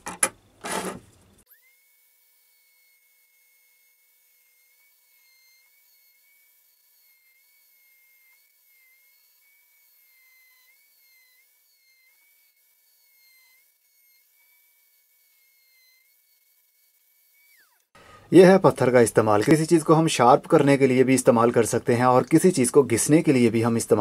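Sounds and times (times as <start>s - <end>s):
rotary tool grinding a nail: 0.0s - 18.0s, 18.6s - 24.0s.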